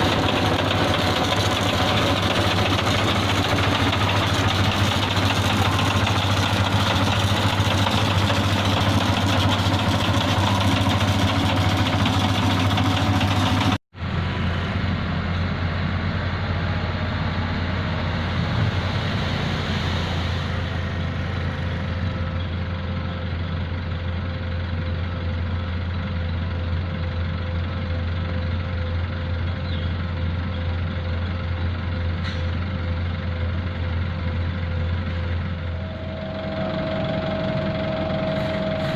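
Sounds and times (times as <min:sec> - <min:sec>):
heavy diesel machinery engines: 0:00.0 - 0:38.9.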